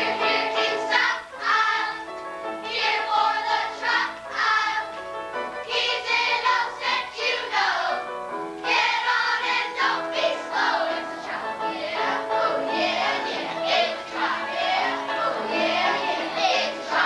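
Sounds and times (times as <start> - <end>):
children singing: 0.0 - 4.9, 5.6 - 8.0, 8.6 - 17.0.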